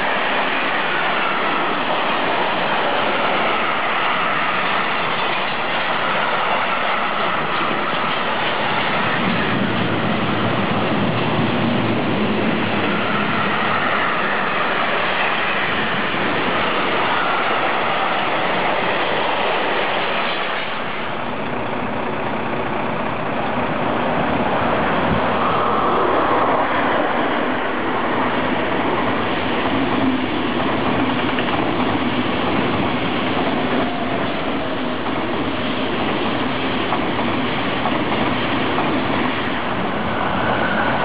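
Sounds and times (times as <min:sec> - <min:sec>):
freight train rolling past: 0:00.0 - 0:41.0
high-speed train passing: 0:00.0 - 0:41.0.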